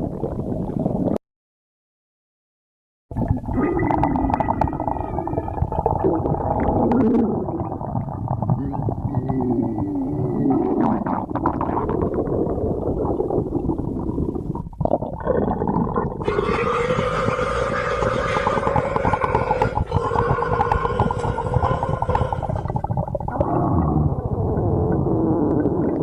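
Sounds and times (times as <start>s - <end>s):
stomach growling: 0.0s - 1.2s, 3.1s - 26.0s.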